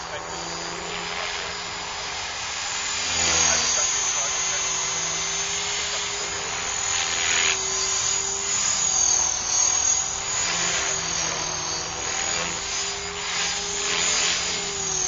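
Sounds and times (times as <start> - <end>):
model helicopter whine: 0.0 - 15.0
rotor whoosh: 0.0 - 15.0.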